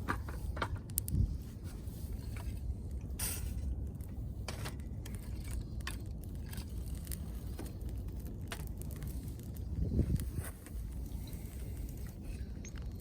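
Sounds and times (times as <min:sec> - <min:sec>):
steady low rumble: 0:00.0 - 0:13.0
campfire crackling and popping: 0:00.4 - 0:01.6, 0:02.7 - 0:13.0.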